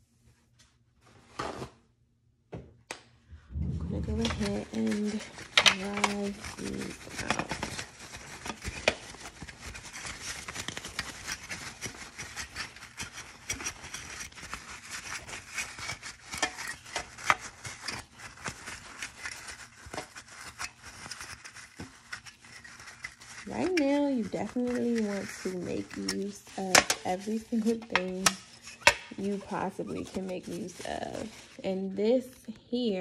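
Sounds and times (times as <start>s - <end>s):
paper towel rustling on plastic: 3.6s - 31.8s.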